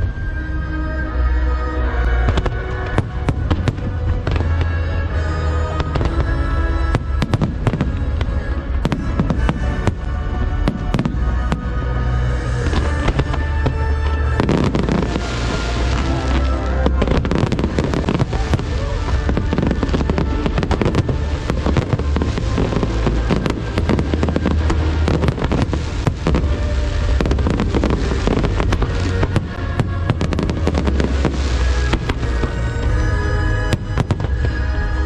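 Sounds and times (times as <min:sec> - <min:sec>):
fireworks cracks and bangs: 0:02.3 - 0:04.9, 0:05.7 - 0:11.8, 0:12.5 - 0:34.7.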